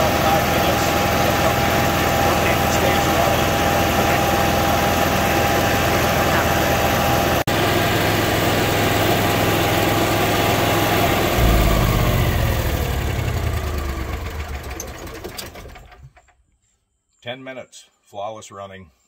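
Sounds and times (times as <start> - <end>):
generator running and winding down: 0.0 - 16.1.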